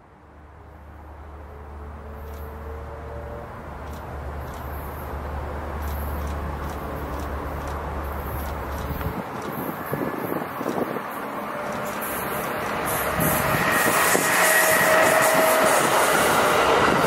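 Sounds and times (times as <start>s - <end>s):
rail noise: 0.0s - 17.0s
electric train approaching: 0.6s - 17.0s.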